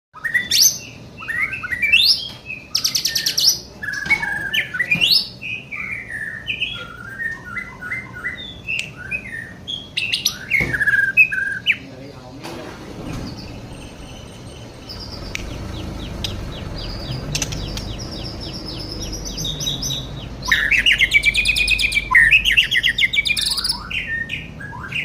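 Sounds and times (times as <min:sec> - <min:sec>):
bird singing whistled song: 0:00.2 - 0:11.8, 0:13.4 - 0:25.0.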